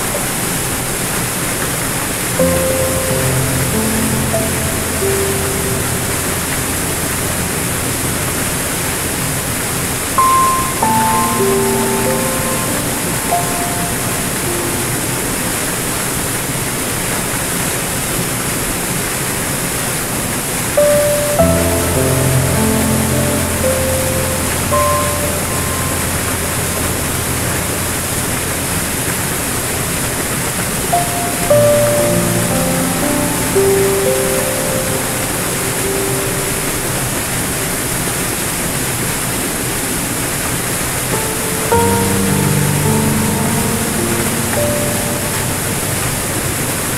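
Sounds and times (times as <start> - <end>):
soft piano notes: 0.0 - 18.6, 19.7 - 46.9
waterfall splashing over rocks: 0.0 - 46.9.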